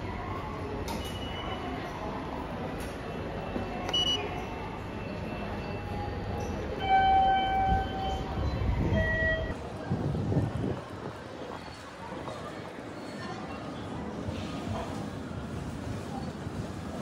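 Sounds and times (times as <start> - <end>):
low rumble of concourse: 0.0 - 17.0.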